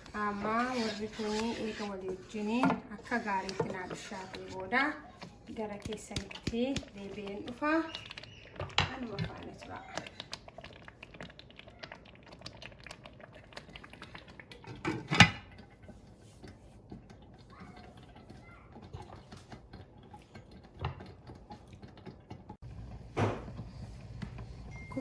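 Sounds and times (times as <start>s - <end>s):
thick stew bubbling in a pot: 0.0s - 25.0s.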